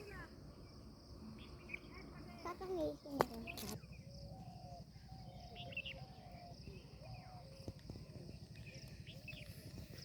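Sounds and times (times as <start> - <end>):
bird chirps: 0.5 - 10.0.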